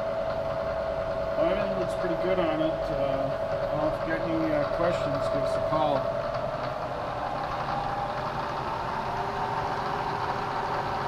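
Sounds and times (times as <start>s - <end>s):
faint machine whine: 0.0s - 11.0s
milling machine hum: 0.0s - 11.0s.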